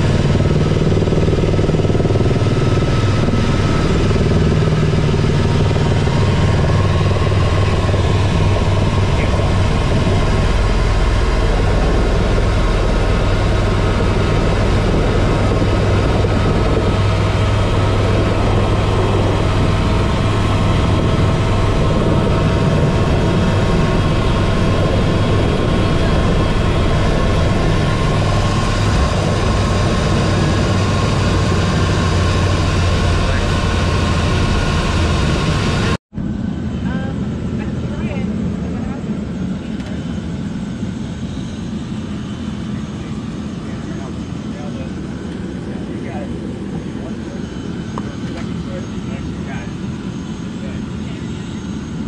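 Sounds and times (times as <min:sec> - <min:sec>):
helicopter engine and rotor drone: 0:00.0 - 0:52.0.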